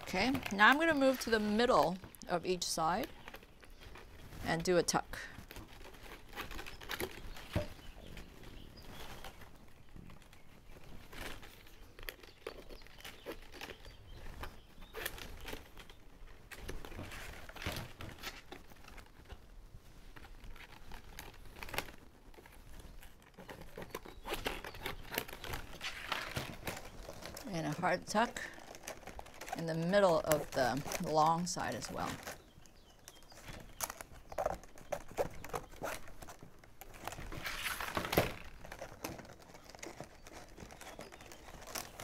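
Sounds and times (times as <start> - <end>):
plastic straps rustling and scraping: 0.0 - 42.0.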